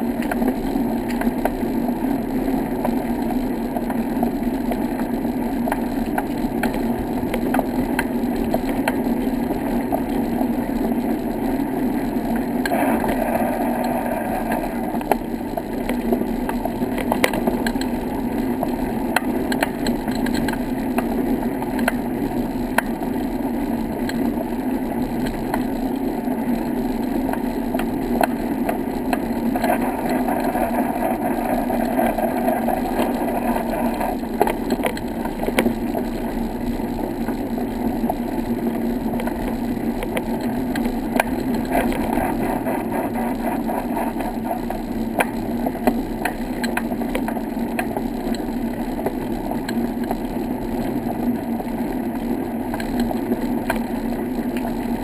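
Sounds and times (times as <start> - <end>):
rolling and rattling on paved path: 0.0 - 55.0.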